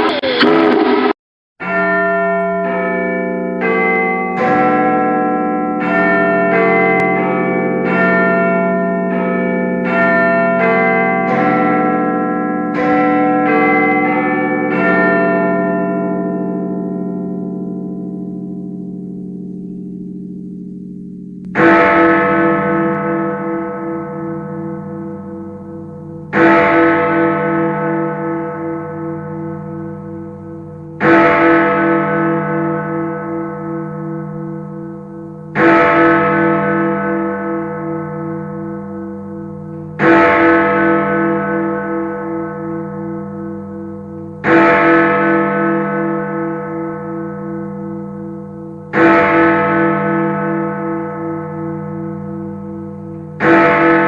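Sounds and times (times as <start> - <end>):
large bell tolling: 0.0 - 54.0.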